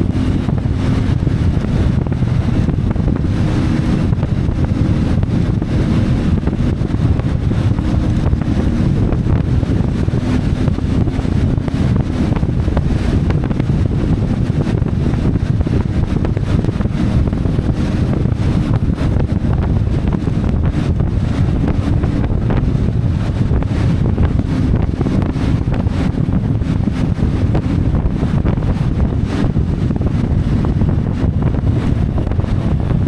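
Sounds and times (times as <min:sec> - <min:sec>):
motorcycle engine running: 0:00.0 - 0:33.0
wind rushing over microphone: 0:00.0 - 0:33.0.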